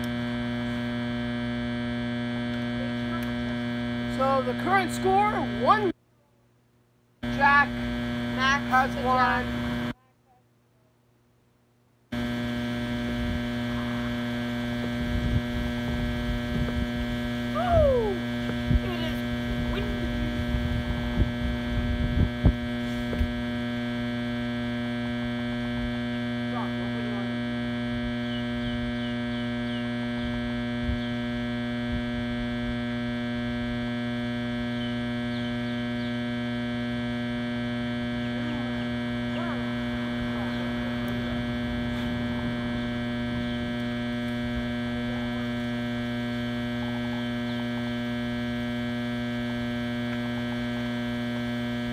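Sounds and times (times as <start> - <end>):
generator droning hum: 0.0 - 51.9.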